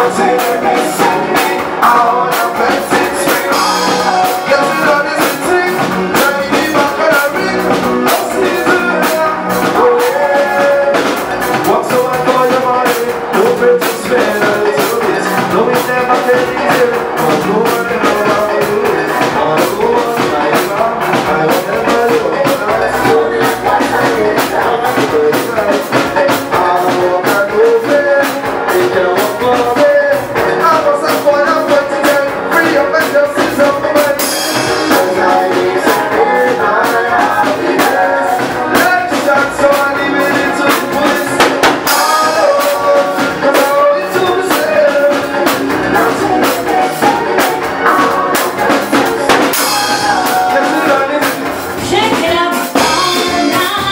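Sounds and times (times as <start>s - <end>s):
drum kit beat: 0.0s - 53.9s
live band playing: 0.0s - 53.9s.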